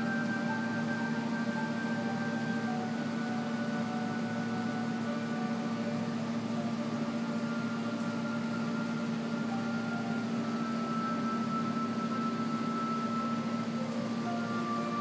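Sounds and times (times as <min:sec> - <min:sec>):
faint held tones: 0:00.0 - 0:15.0
machine hum with fan hiss: 0:00.0 - 0:15.0.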